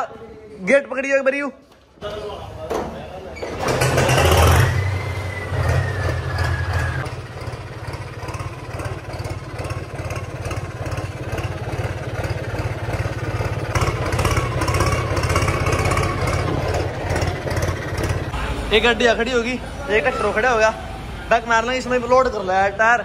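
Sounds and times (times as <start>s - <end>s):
tractor diesel engine running: 3.6s - 22.7s.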